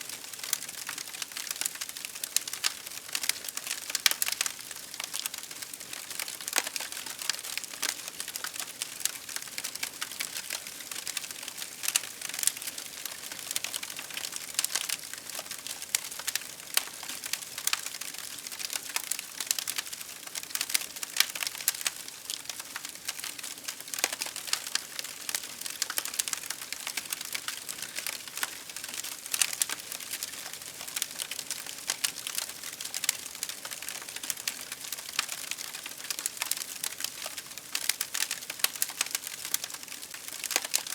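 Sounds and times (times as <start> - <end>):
wood fire crackling: 0.1 - 40.9.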